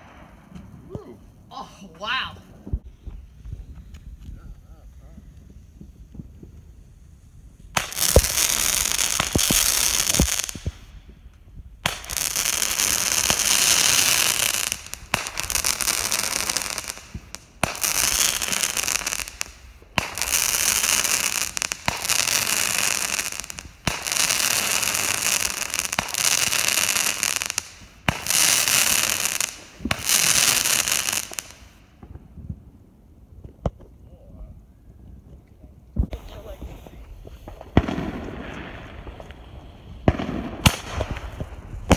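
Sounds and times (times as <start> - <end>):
fireworks hissing and crackling: 0.0 - 32.6, 35.2 - 41.9
fireworks popping: 0.0 - 32.6, 33.4 - 34.0, 35.2 - 41.9.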